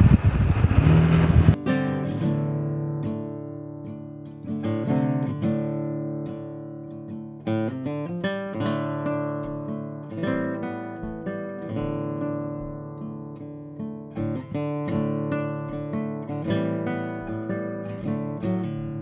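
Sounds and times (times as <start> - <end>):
acoustic guitar strumming: 0.7 - 19.0.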